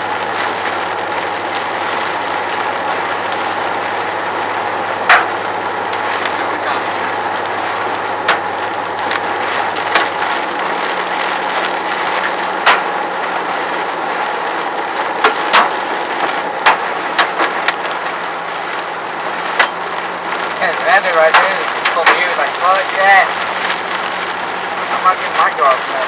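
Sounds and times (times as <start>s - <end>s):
hailstones striking a car: 0.0s - 26.0s
low engine hum: 0.0s - 26.0s
steady rush of rain: 0.0s - 26.0s.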